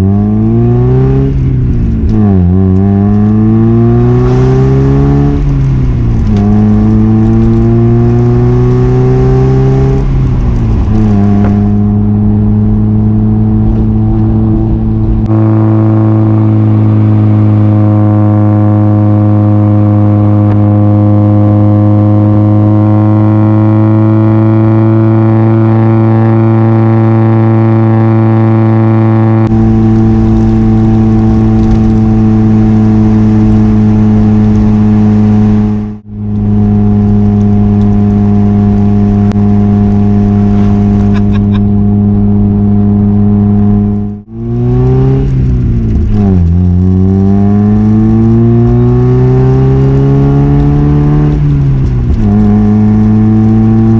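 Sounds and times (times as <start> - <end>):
car engine accelerating through gears: 0.0 - 53.9.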